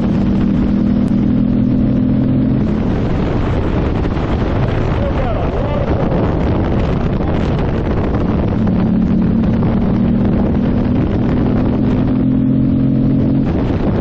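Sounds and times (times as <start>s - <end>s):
motorcycle engine drone: 0.0s - 14.0s
wind buffeting microphone: 0.0s - 14.0s.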